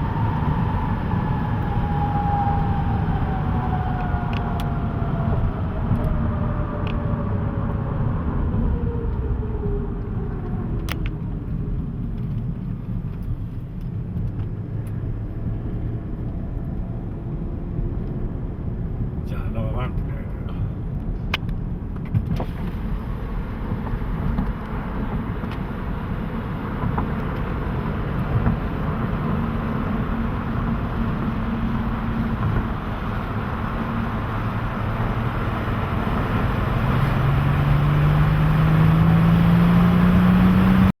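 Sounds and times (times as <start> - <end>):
car engine rumbling and revving: 0.0 - 41.0
road and wind noise: 0.0 - 41.0.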